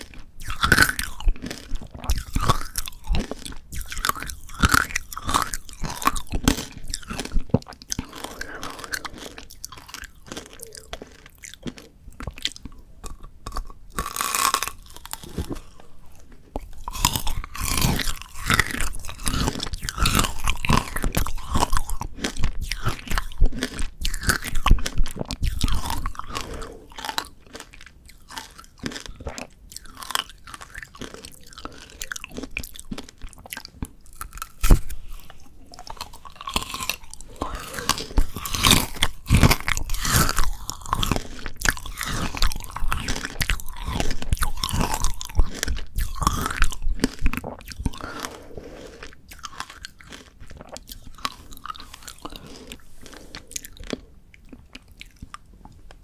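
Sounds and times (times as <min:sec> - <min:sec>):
crunching frozen candied fruit: 0:00.0 - 0:56.0.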